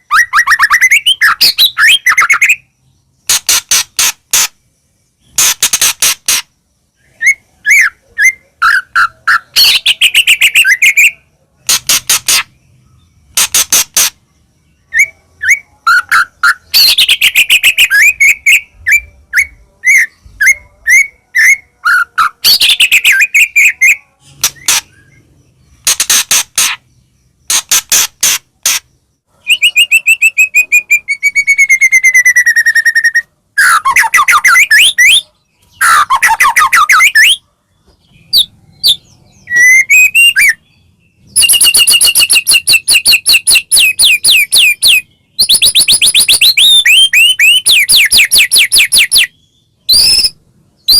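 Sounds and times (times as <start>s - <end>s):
songbird whistles and trills: 0.0s - 50.9s.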